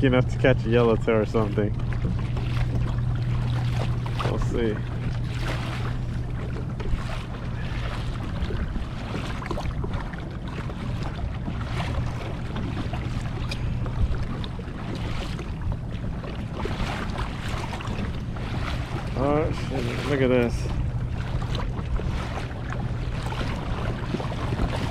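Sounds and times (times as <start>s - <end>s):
water sloshing against hull: 0.0s - 24.9s
wind on microphone: 0.0s - 24.9s.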